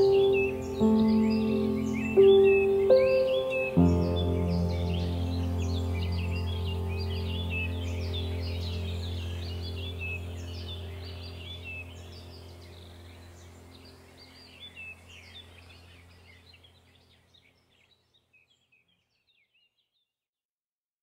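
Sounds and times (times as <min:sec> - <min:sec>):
steady low hum: 0:00.0 - 0:17.1
small birds chirping: 0:00.0 - 0:20.1.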